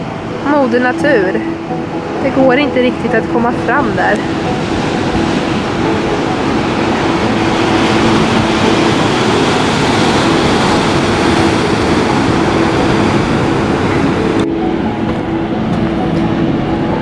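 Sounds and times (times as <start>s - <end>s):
surf breaking against cliffs: 0.0s - 17.0s
wind on microphone: 0.0s - 17.0s.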